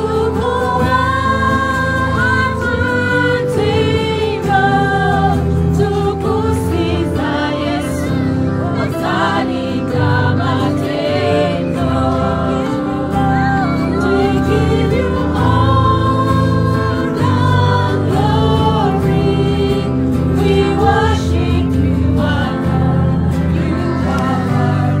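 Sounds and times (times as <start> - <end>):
choir singing gospel: 0.0 - 25.0
instrumental accompaniment: 0.0 - 25.0.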